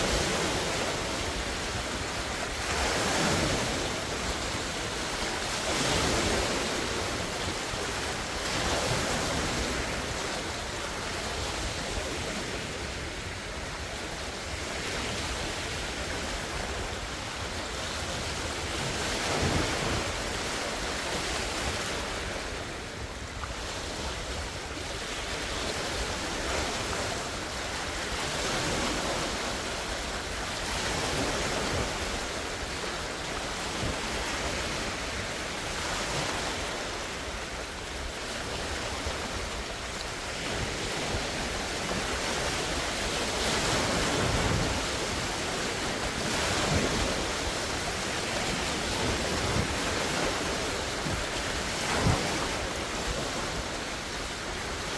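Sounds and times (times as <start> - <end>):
lake waves breaking on shore: 0.0 - 54.9.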